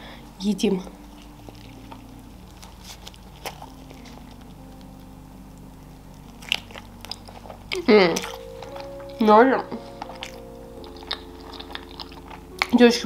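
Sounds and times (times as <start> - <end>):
low steady hum: 0.0 - 13.0
faint chewing with mouth clicks: 0.8 - 13.0.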